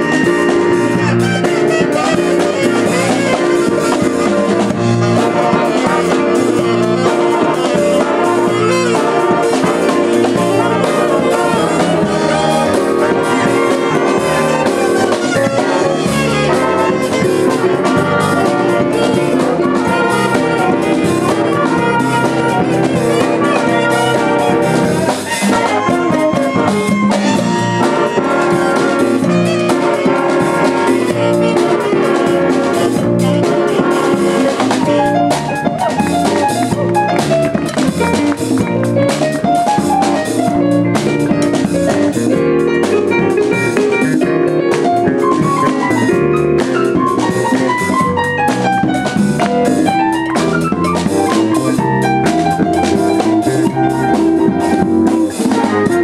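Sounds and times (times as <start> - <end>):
bass guitar: 0.0 - 56.0
drum kit: 0.0 - 56.0
electric guitar: 0.0 - 56.0
saxophone section: 0.0 - 56.0.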